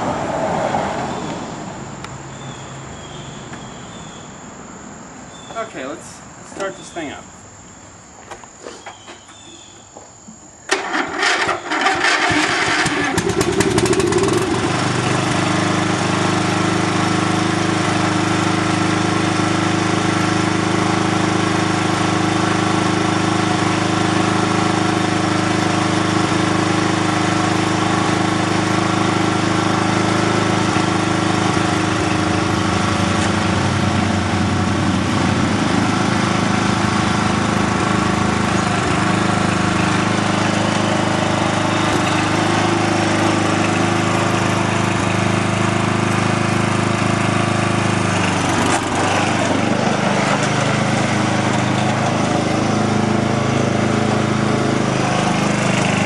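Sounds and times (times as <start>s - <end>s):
lawn tractor engine running: 10.7s - 56.0s.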